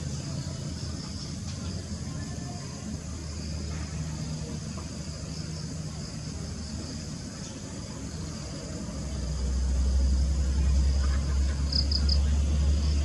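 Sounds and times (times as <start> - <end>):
crickets and insects chorus: 0.0 - 13.0.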